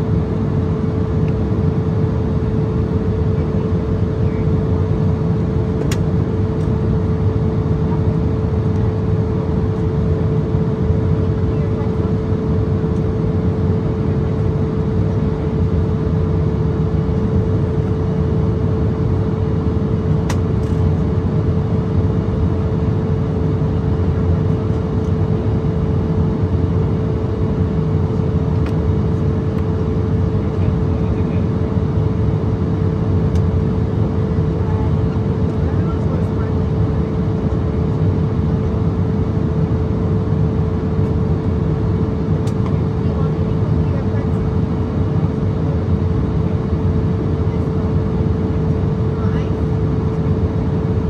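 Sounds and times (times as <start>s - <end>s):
constant hum: 0.0s - 51.0s
jet engine rumble: 0.0s - 51.0s.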